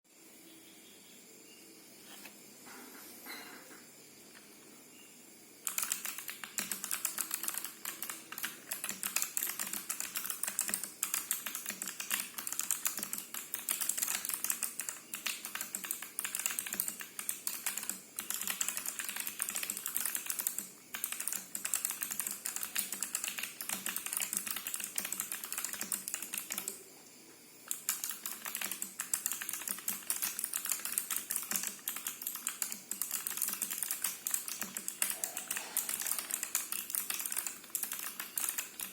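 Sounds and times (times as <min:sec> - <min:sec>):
mechanical keyboard typing: 0:05.6 - 0:26.8, 0:27.7 - 0:38.9.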